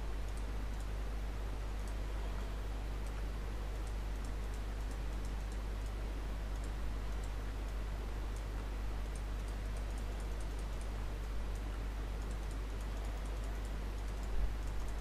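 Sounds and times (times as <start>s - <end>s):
low electrical hum: 0.0s - 15.0s
computer mouse clicks: 0.2s - 0.9s, 1.7s - 2.0s, 3.0s - 15.0s.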